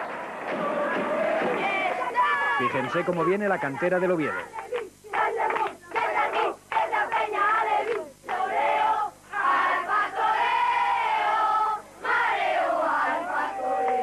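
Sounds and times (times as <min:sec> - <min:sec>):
boys chanting in unison: 0:00.5 - 0:14.0.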